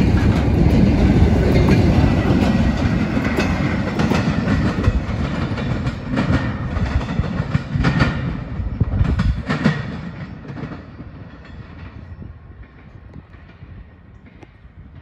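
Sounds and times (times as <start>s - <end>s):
train wheels clacking on track: 0.0s - 15.0s.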